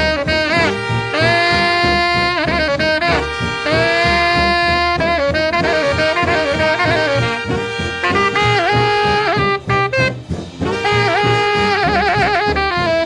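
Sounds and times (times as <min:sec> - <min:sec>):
steady beat: 0:00.0 - 0:13.0
swing jazz horn section: 0:00.0 - 0:13.0.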